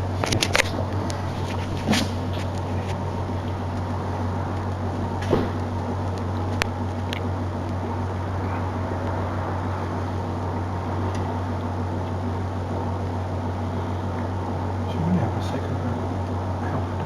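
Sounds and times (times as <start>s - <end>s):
constant hiss: 0.0s - 17.0s
steady low hum: 0.0s - 17.0s.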